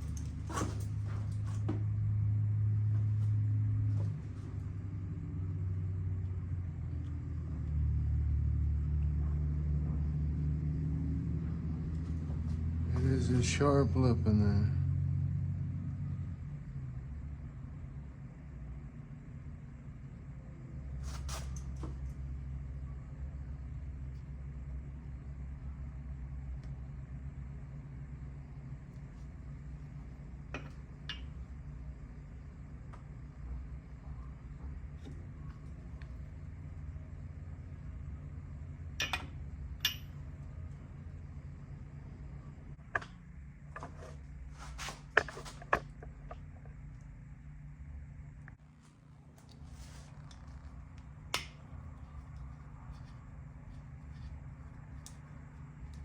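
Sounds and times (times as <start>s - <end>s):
low background rumble: 0.0s - 56.0s
low motor hum: 0.0s - 56.0s.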